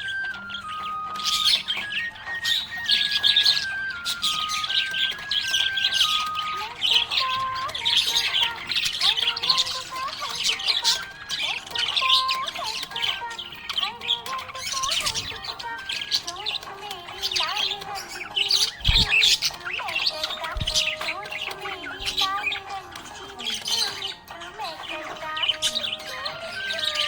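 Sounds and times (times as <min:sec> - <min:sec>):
background music: 0:00.0 - 0:27.0
budgerigar chirping: 0:00.0 - 0:27.0.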